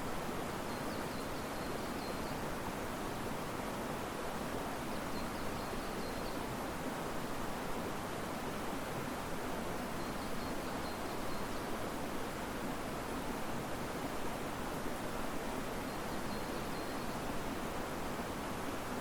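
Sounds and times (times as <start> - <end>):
wind through trees: 0.0 - 19.0.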